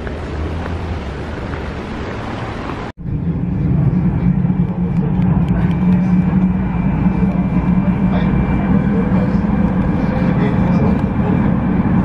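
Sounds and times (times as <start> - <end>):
train carriage hum and rumble: 0.0 - 12.0.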